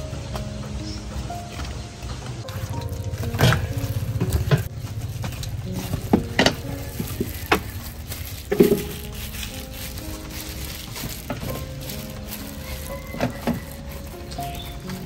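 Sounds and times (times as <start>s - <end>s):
rice rustling and squishing: 1.5s - 15.0s.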